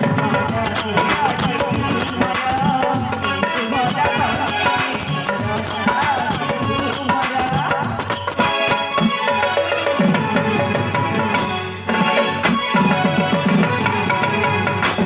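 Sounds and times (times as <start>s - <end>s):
fast percussion with shakers and drums: 0.0s - 15.0s.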